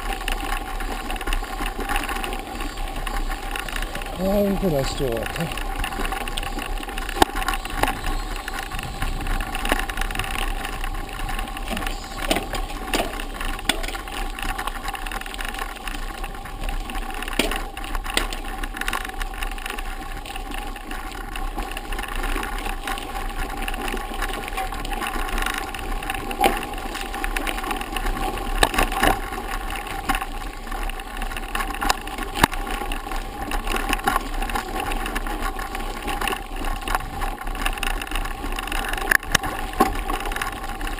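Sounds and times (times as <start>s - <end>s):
bike knocking and rattling: 0.0s - 40.9s
bike tyres rolling on gravel: 0.0s - 40.9s.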